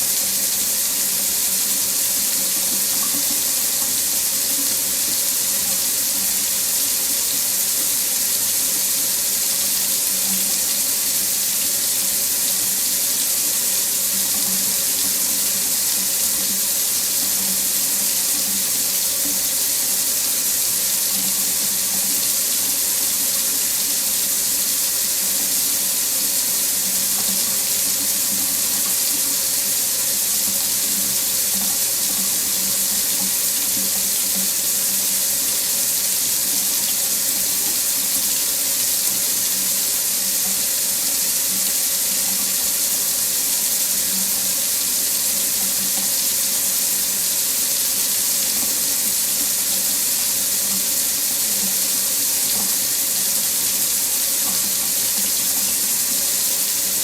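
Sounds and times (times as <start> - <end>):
faucet running into sink: 0.0 - 57.0.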